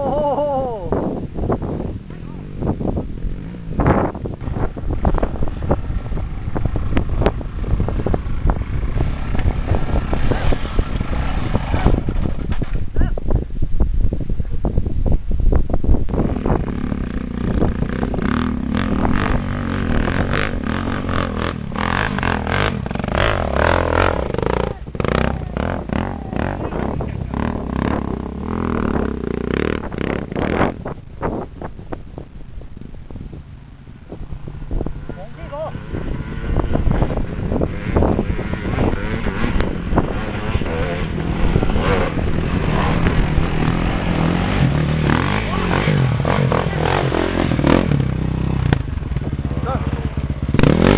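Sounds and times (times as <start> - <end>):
dirt bike engine revving: 0.0 - 12.9, 16.1 - 50.9.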